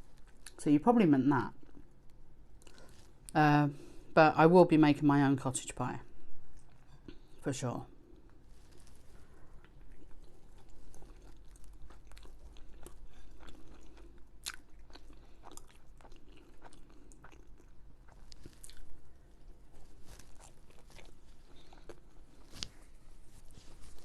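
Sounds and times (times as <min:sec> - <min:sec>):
person chewing food: 0:00.0 - 0:00.6, 0:01.6 - 0:03.3, 0:06.4 - 0:07.4, 0:08.0 - 0:24.0.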